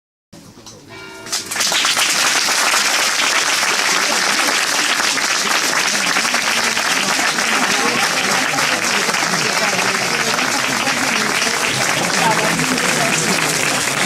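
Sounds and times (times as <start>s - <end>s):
audience applause: 1.3s - 14.0s.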